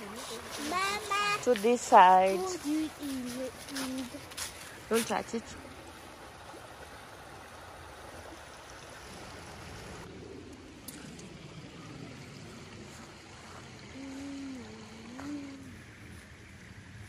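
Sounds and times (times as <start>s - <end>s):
brook trickling over stones: 0.0s - 17.0s.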